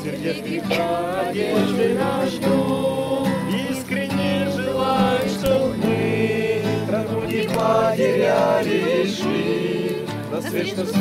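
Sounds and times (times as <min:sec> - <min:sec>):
group singing together: 0:00.0 - 0:11.0
strummed acoustic guitars: 0:00.0 - 0:11.0.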